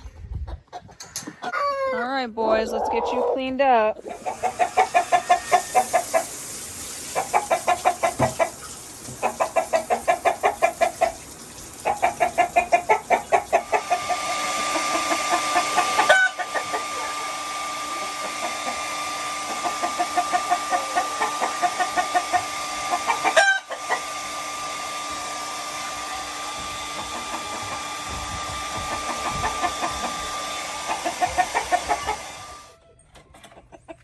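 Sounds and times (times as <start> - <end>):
chicken clucking: 0.0 - 6.4, 7.0 - 11.2, 11.8 - 24.0, 28.7 - 30.2, 30.9 - 34.0.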